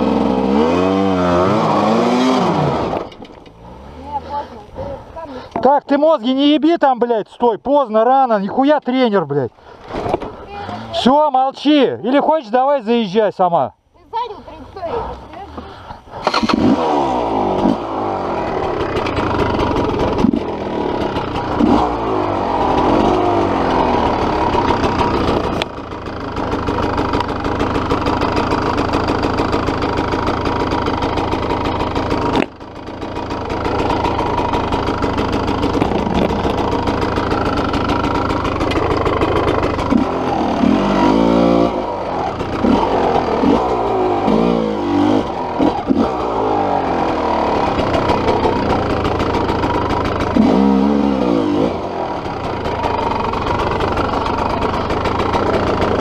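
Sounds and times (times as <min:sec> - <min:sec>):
dirt bike engine revving: 0:00.0 - 0:05.7, 0:14.8 - 0:56.0.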